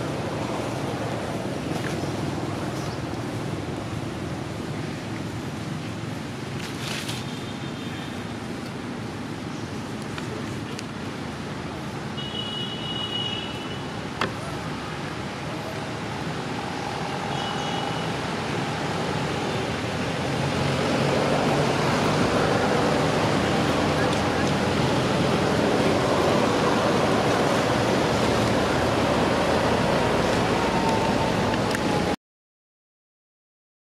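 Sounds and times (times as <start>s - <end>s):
distant road traffic: 0.0s - 32.2s.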